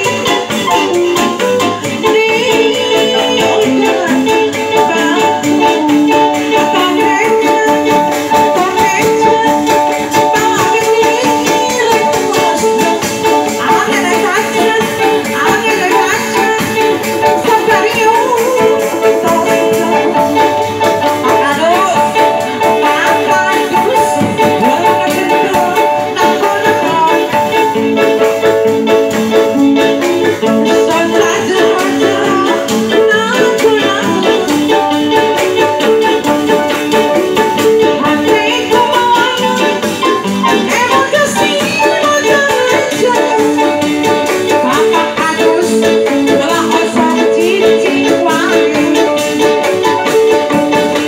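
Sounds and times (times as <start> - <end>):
drums and rattling percussion: 0.0 - 51.0.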